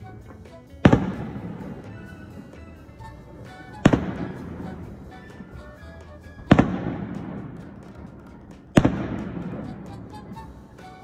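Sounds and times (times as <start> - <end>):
firework rumble: 0.0 - 11.0
firework shells bursting: 0.0 - 11.0.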